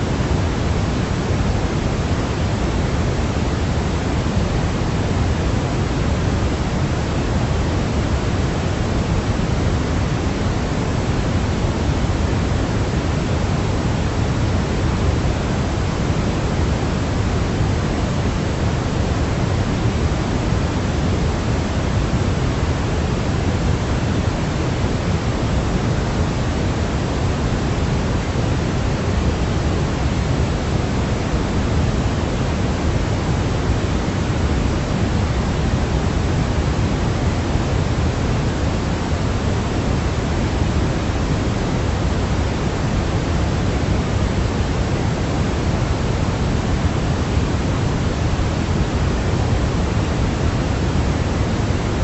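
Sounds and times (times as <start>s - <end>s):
steady pink noise hiss: 0.0s - 52.0s.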